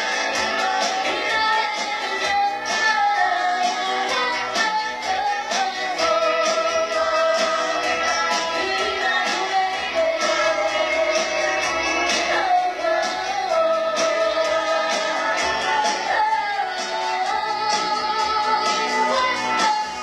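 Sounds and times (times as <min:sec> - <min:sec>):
drums steady beat: 0:00.0 - 0:20.0
guitar: 0:00.0 - 0:20.0
person singing into microphone: 0:00.0 - 0:20.0.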